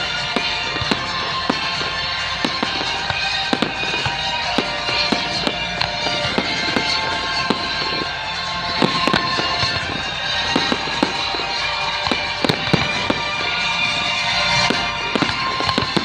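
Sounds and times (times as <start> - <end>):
fireworks bangs: 0.0 - 16.0
music playing: 0.0 - 16.0.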